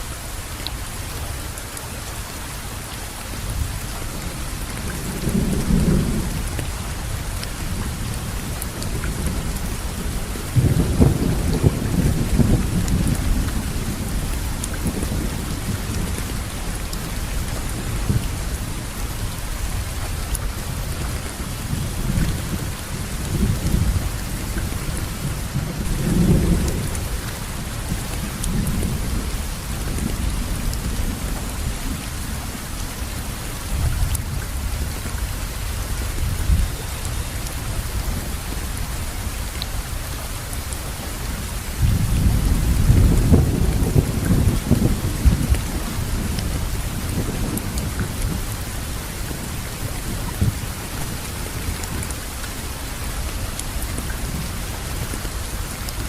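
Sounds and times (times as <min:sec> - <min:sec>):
steady rainfall: 0:00.0 - 0:56.0
low thunder rumble: 0:03.5 - 0:39.1, 0:41.3 - 0:55.8.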